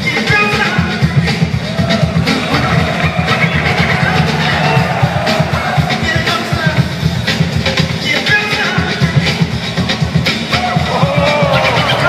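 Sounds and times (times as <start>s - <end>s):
breakbeat music with heavy bass: 0.0s - 12.0s.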